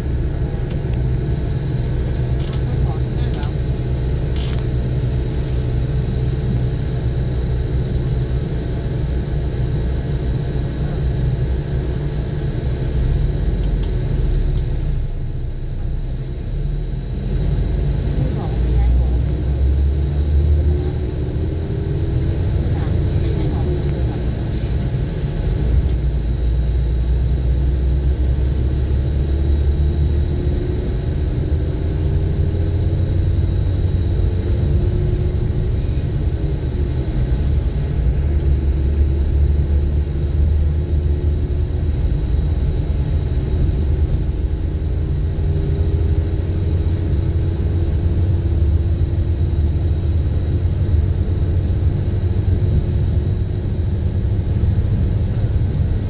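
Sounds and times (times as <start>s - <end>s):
faint whine: 0.0s - 56.0s
vehicle engine and tyre rumble: 0.0s - 56.0s.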